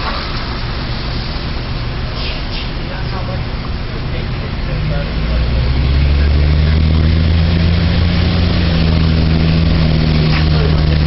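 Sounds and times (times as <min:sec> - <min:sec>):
bus engine humming: 0:00.0 - 0:11.0.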